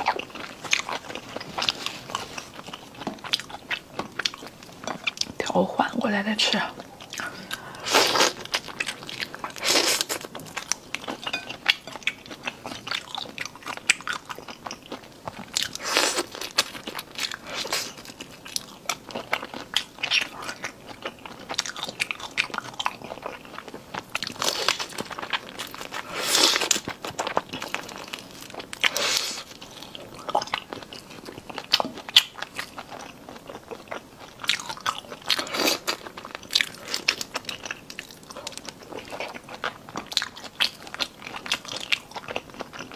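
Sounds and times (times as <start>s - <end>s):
chewing and crunching seafood: 0.0s - 5.6s, 6.7s - 42.9s.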